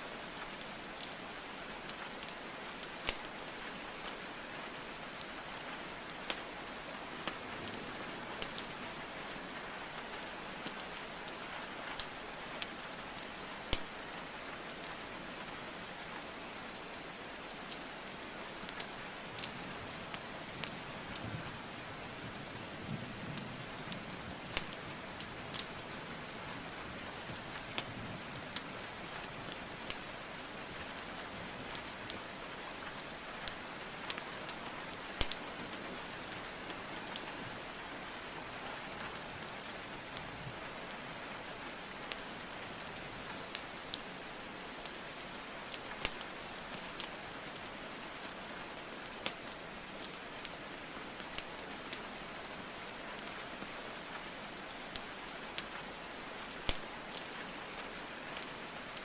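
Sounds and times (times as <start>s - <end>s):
steady rain: 0.0s - 59.0s
burning logs crackling: 0.2s - 59.0s.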